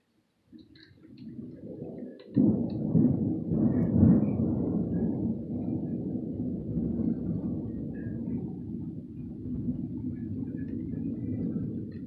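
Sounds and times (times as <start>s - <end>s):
thunder crack and rumble: 1.1s - 12.0s.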